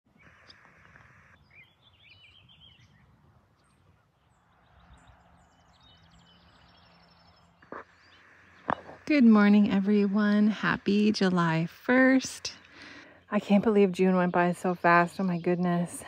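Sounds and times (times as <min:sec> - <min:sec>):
faint birdsong: 0:00.1 - 0:16.0.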